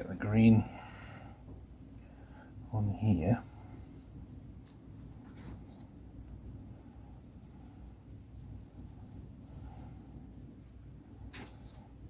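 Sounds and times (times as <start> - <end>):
faint rustling and scratching: 0.0 - 12.0.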